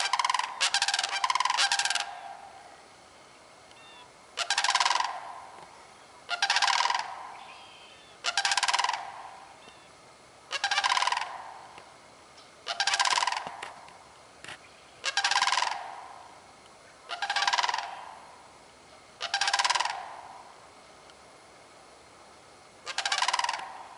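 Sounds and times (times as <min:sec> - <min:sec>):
cranes rattling bugle calls: 0:00.0 - 0:02.8, 0:03.7 - 0:12.0, 0:12.6 - 0:20.6, 0:22.8 - 0:23.9.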